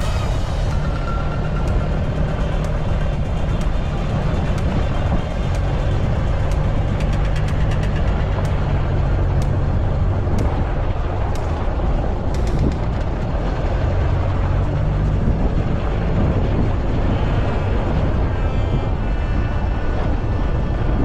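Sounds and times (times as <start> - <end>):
low fire rumble: 0.0 - 21.0.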